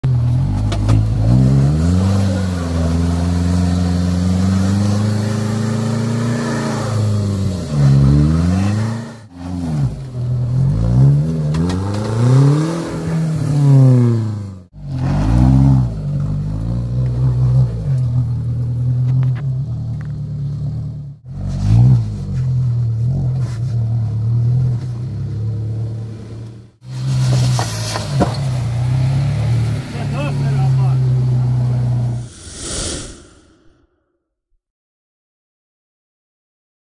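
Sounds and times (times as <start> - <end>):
engine revving under load: 0.0 - 33.0.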